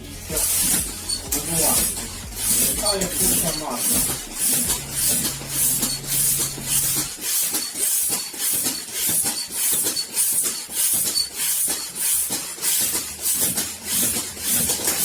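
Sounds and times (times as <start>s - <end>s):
air puffs hissing: 0.0s - 15.0s.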